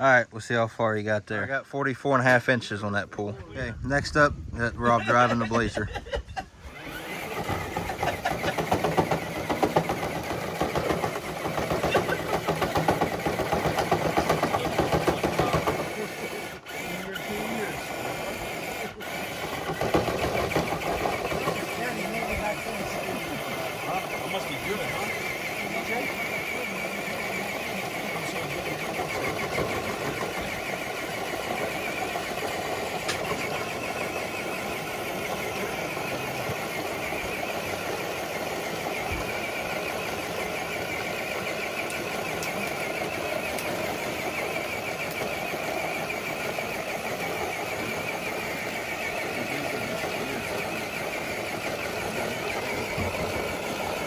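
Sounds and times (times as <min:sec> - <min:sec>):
electric motor and drivetrain whining: 0:02.2 - 0:54.0.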